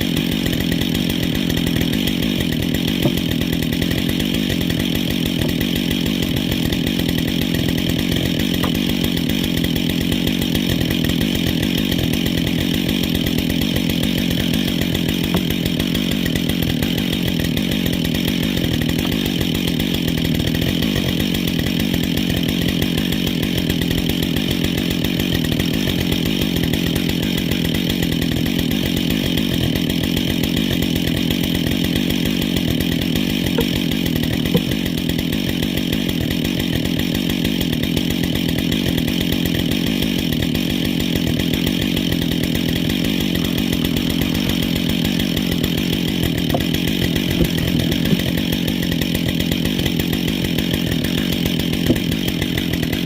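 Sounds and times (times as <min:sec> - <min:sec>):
chainsaw running: 0:00.0 - 0:53.0.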